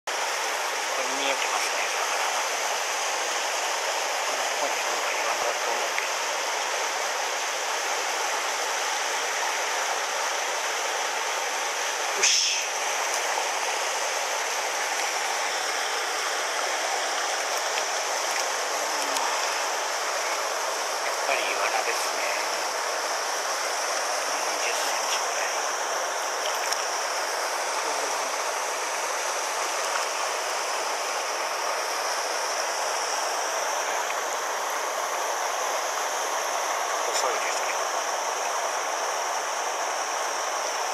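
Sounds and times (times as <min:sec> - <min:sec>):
stream pouring over rocks: 0:00.1 - 0:40.9.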